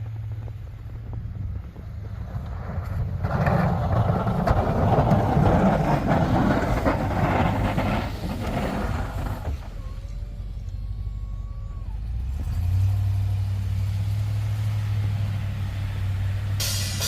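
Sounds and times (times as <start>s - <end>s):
plow truck pushing snow: 0.0s - 17.0s.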